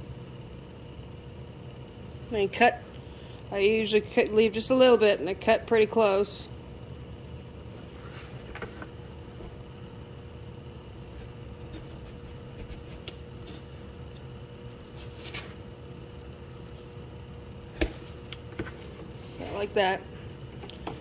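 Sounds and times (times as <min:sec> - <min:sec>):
room hum with tone: 0:00.0 - 0:21.0.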